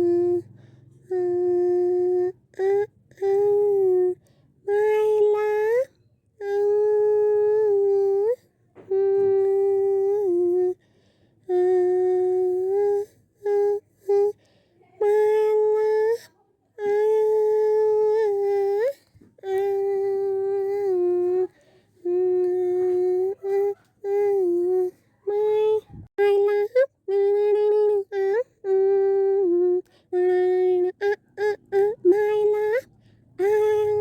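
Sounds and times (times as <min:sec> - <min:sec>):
high voice humming a tune: 0:00.0 - 0:10.8, 0:11.5 - 0:34.0.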